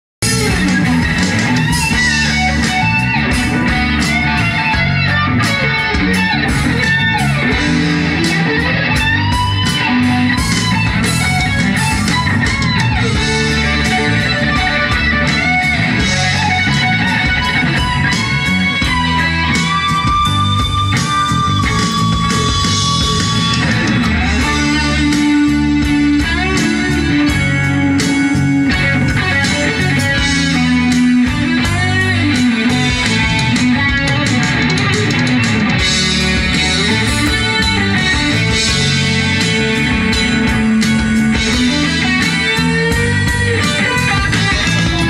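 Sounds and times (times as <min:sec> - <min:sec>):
bass guitar: 0:00.2 - 0:45.0
drums: 0:00.2 - 0:45.0
electric guitar lead line: 0:00.2 - 0:45.0.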